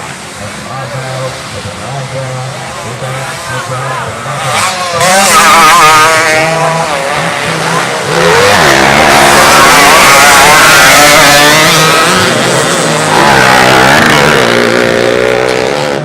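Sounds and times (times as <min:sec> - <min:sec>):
racing motorcycles revving: 0:00.0 - 0:16.0.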